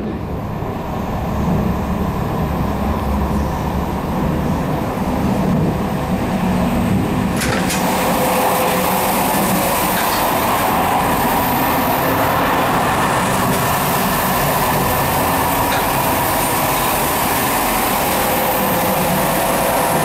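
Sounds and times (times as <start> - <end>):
wheels rumbling on rails: 0.0 - 20.0.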